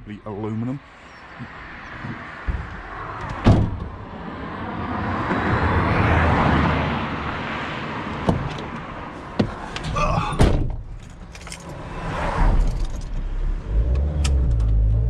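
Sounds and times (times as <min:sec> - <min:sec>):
car passing on road: 0:00.8 - 0:10.0, 0:10.8 - 0:15.0.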